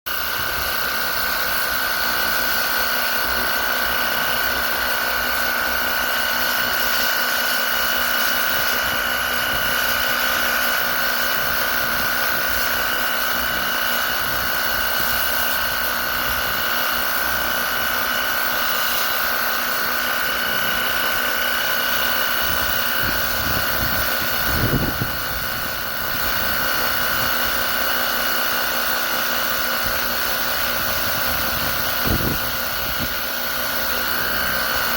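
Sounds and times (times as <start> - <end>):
pressure washer pump whining: 0.1 - 34.9.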